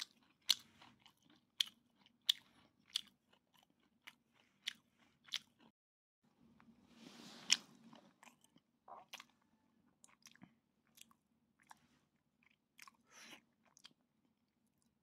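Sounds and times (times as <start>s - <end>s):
person chewing wet food: 0.0s - 5.8s, 7.4s - 15.0s.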